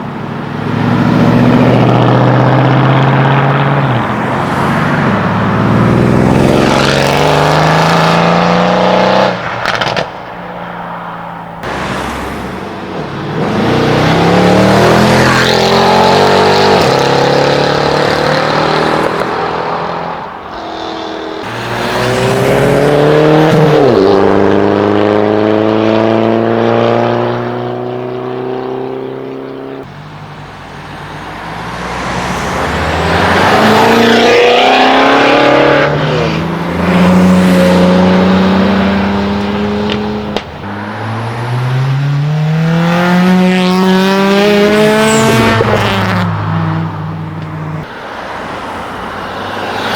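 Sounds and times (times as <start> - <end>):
cars accelerating with loud exhausts: 0.0 - 49.9.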